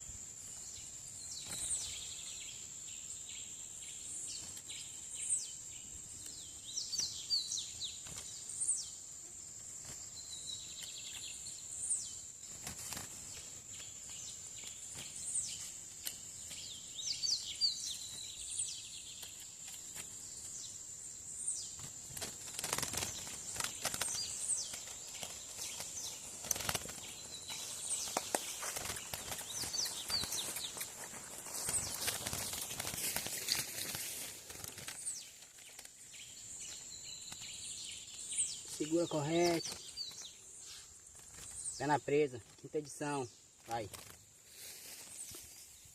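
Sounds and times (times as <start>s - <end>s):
songbird chirping: 0.0s - 45.9s.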